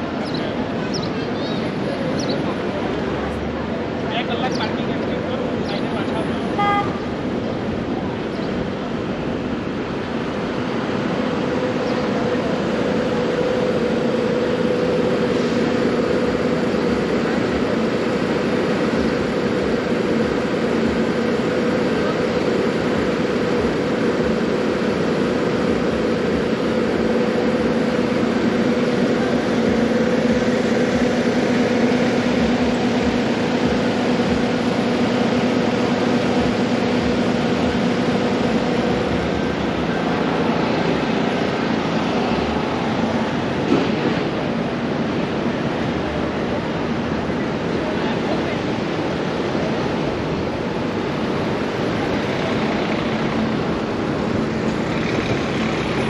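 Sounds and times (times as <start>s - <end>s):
loud mechanical noise: 0.0s - 56.0s.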